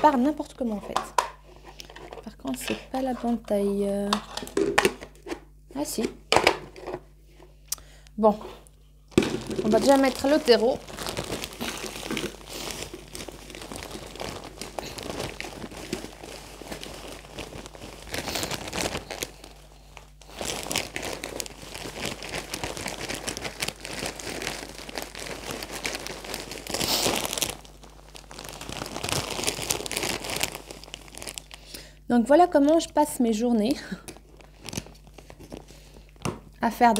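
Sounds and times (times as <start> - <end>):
plastic bag crinkling: 0.0 - 5.3, 9.1 - 36.9.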